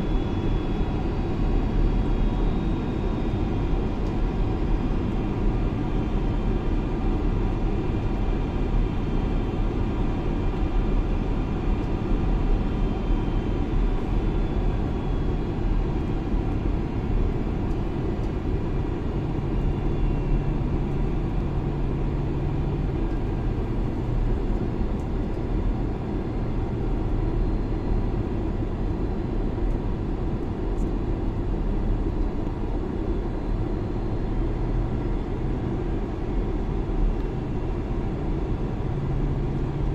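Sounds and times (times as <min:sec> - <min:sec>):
jet engine and airflow in cabin: 0:00.0 - 0:39.9.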